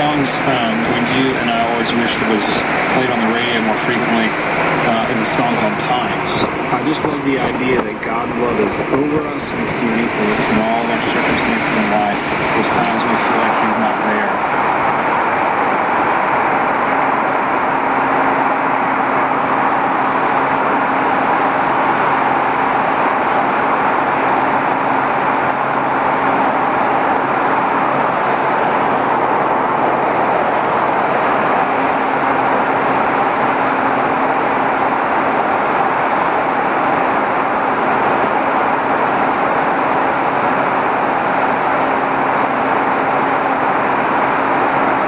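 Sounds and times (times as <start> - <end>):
low motorcycle engine hum: 0.0 - 45.0
wind and tyre noise: 0.0 - 45.0.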